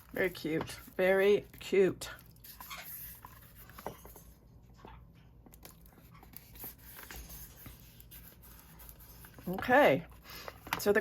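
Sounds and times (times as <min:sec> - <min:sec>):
paper rustling: 0:00.0 - 0:04.4, 0:05.6 - 0:11.0.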